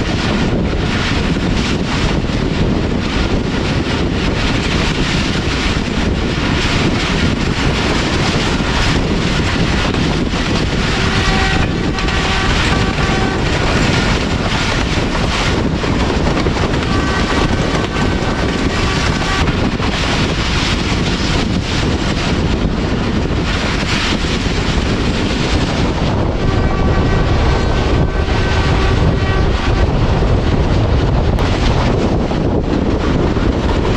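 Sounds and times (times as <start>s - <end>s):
train wheels rumbling on rails: 0.0s - 33.9s
wind buffeting microphone: 0.0s - 33.9s.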